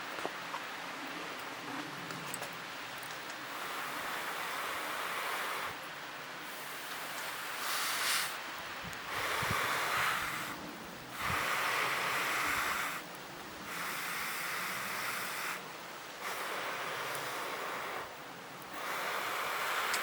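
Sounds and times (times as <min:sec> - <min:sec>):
air blown in hissing puffs: 0:03.4 - 0:20.0.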